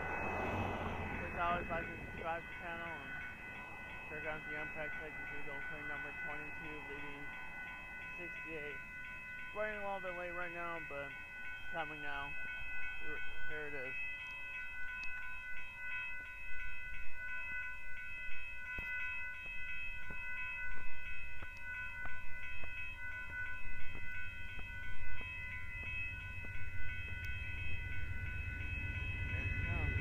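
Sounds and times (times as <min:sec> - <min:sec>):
crossing warning bell ringing: 0:00.0 - 0:30.0
low rumble of approaching train: 0:00.0 - 0:30.0.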